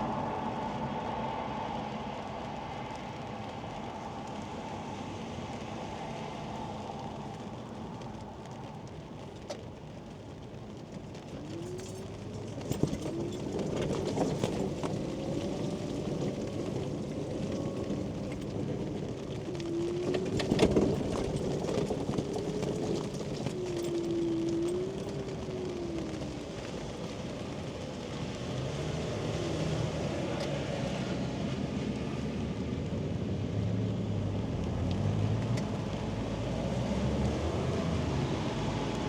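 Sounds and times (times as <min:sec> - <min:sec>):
rain on a canopy: 0:00.0 - 0:39.0.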